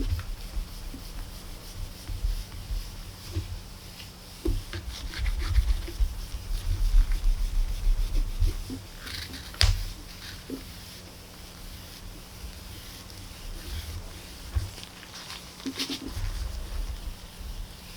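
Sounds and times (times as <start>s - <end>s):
hand rubbing and scraping plate: 0.0s - 17.8s
faint steady hum: 0.0s - 17.9s.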